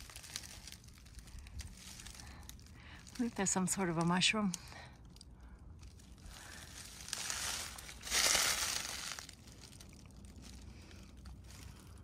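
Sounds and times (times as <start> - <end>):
rustling crunching noise: 0.0 - 4.1, 5.8 - 12.0.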